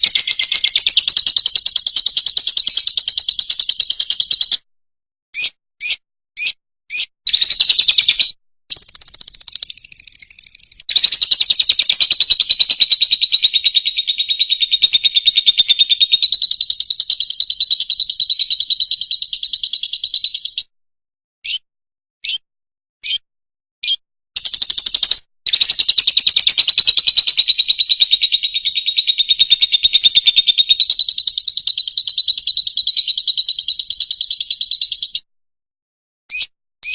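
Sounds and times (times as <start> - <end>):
lovebird chirping and trilling: 0.0 - 4.6, 5.3 - 20.7, 21.4 - 21.6, 22.2 - 22.4, 23.0 - 23.2, 23.8 - 35.3, 36.3 - 36.9.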